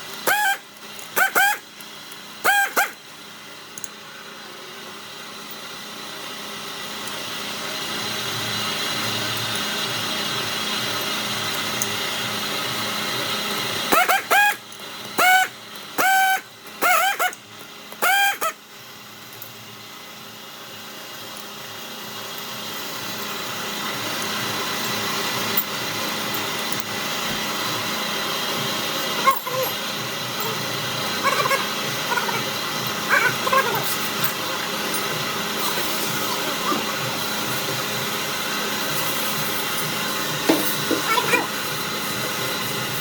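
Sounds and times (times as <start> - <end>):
machine hum and hiss: 0.0 - 43.0.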